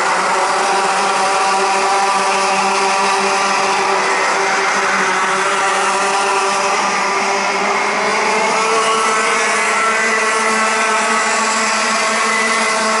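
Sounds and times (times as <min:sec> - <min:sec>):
kart engines racing: 0:00.0 - 0:13.0.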